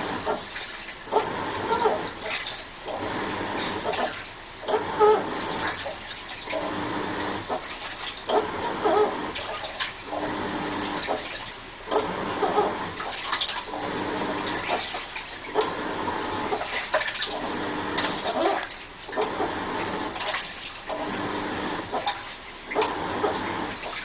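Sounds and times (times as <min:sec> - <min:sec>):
washing machine squeaking: 0:00.0 - 0:24.0
washing machine water sloshing: 0:00.0 - 0:24.0.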